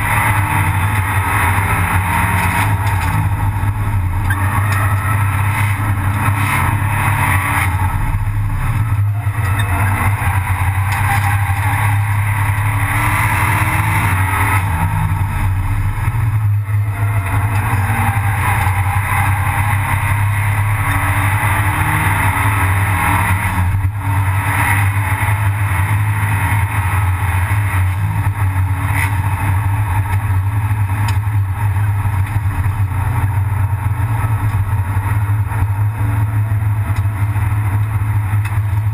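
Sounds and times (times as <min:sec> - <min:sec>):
race car engine running: 0:00.0 - 0:38.9.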